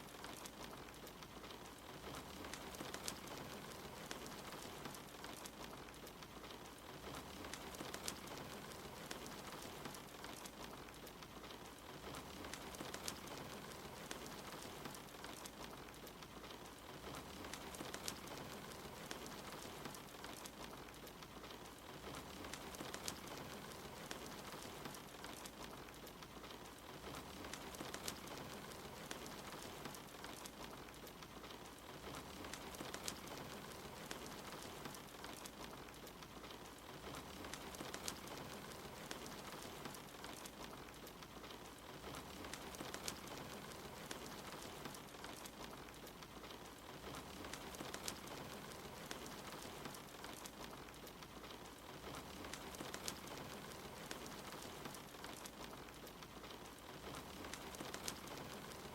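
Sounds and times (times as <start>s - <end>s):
soft rain hiss: 0.0s - 58.9s
wood fire crackling and popping: 0.0s - 58.9s.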